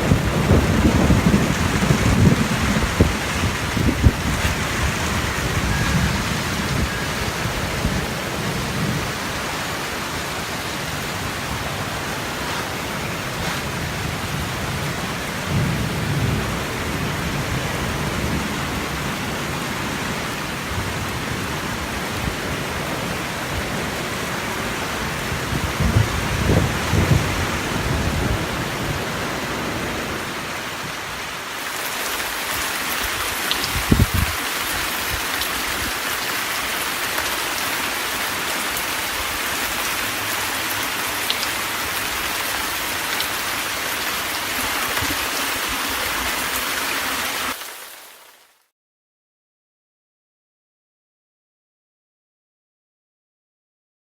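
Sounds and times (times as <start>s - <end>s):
heavy rain: 0.0s - 48.7s.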